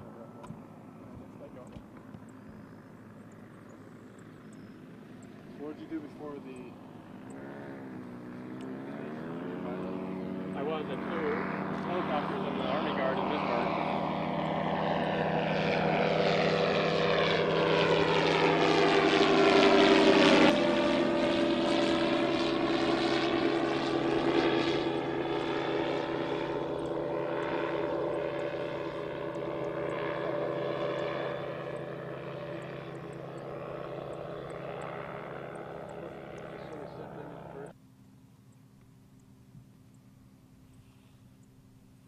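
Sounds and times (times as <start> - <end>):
drone propeller engine passing overhead: 0.0 - 42.0.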